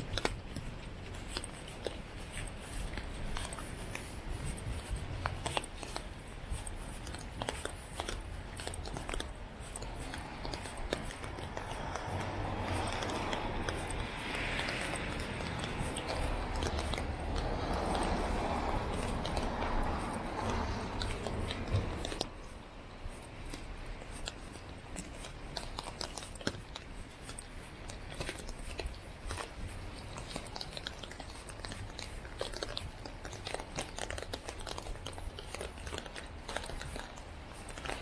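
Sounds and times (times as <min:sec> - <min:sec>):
low city rumble: 0:00.0 - 0:38.0.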